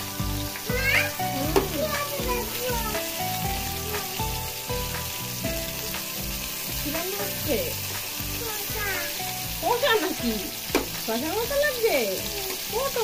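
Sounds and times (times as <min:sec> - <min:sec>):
music with steady beat: 0:00.0 - 0:12.9
food sizzling in oil: 0:00.0 - 0:13.0.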